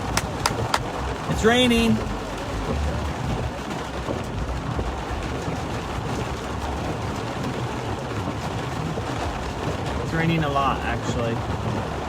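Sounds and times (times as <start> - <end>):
car and tyres on wet road: 0.0 - 12.0
heavy rain on a car: 0.0 - 12.0.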